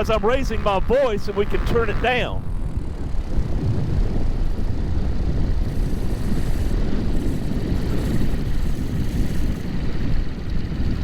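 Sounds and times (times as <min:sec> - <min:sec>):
propeller aircraft engine rumble: 0:00.0 - 0:11.0
wind noise: 0:00.0 - 0:11.0.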